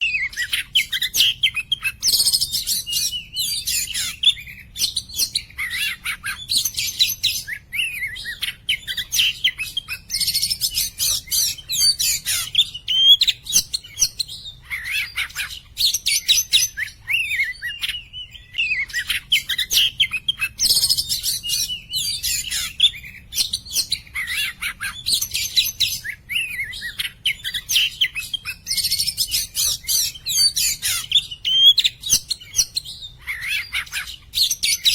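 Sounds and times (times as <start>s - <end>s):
bird singing whistled phrases: 0.0s - 34.9s.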